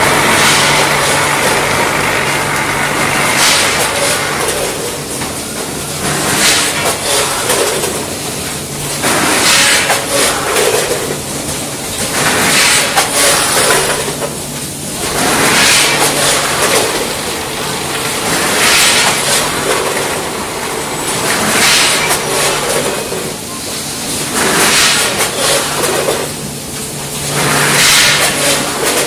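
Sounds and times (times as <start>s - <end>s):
machine mechanical hum: 0.0s - 29.0s.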